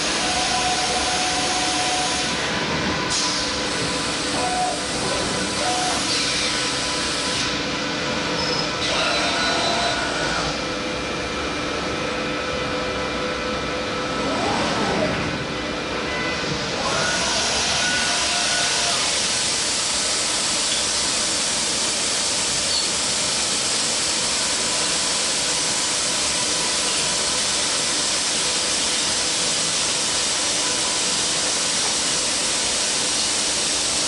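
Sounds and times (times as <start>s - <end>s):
cnc router cutting metal: 0.0s - 34.0s.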